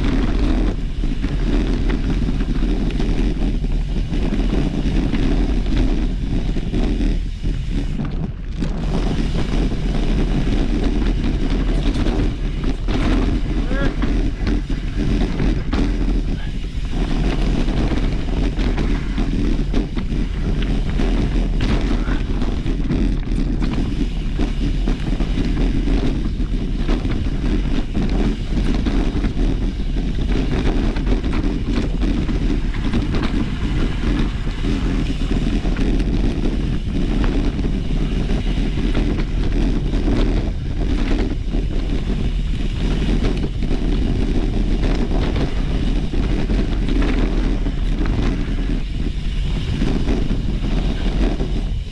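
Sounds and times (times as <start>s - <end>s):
bike rattling and knocking: 0.0s - 51.9s
wind rumble on microphone: 0.0s - 51.9s.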